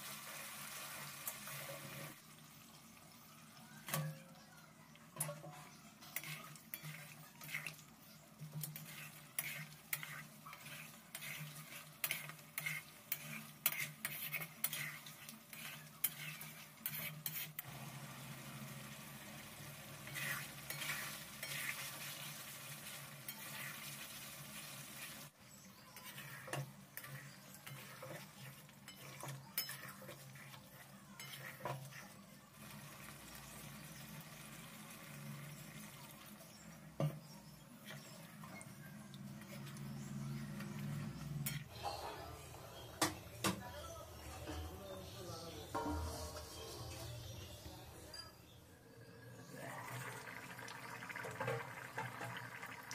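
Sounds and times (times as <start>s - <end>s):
curry sizzling in a pan: 0.0s - 52.9s
spoon scraping in a pan: 3.8s - 52.6s.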